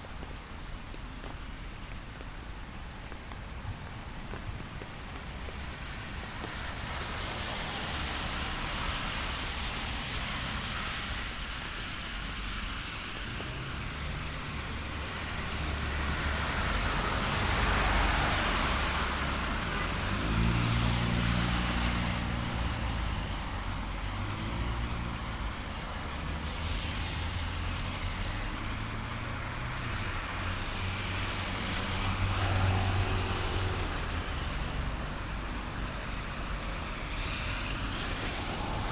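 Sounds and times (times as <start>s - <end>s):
rain hiss: 0.0s - 38.9s
cars swishing past on wet road: 0.1s - 38.9s.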